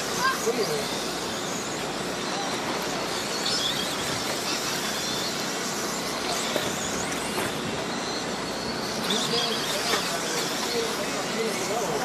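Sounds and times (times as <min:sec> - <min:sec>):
high motor whines of passing cars: 0:00.0 - 0:12.0
rc car motors and tyres hissing: 0:00.0 - 0:12.0.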